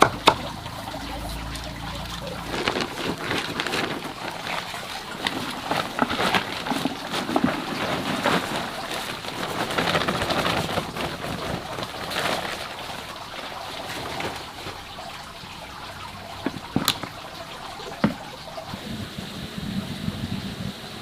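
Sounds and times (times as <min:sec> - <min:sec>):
small crackles: 0:00.0 - 0:18.8
water sloshing and trickling: 0:00.0 - 0:18.8.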